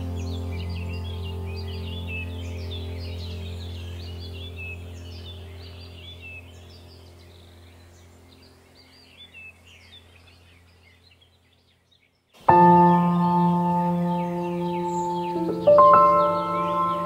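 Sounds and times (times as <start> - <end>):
ambient music drone: 0.0 - 10.9, 12.4 - 17.0
bird chirps: 0.0 - 17.0.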